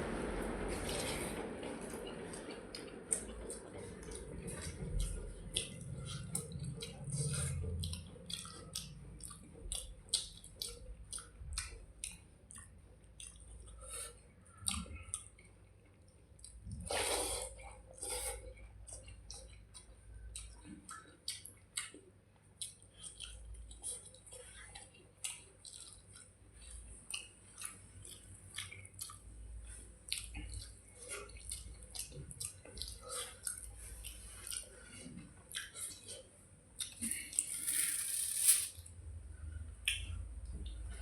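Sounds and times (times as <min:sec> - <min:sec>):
wet rice being chewed: 0:00.0 - 0:38.8.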